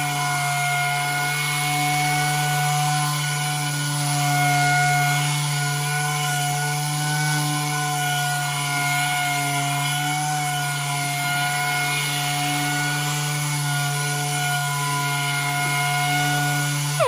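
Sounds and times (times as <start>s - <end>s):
electric sander sanding metal: 0.0s - 17.0s.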